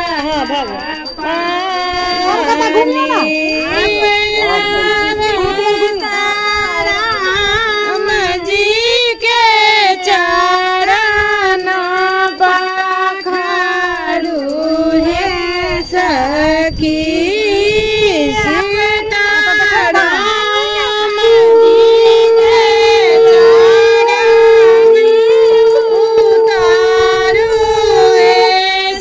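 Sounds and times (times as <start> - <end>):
woman singing devotional song: 0.0 - 29.0.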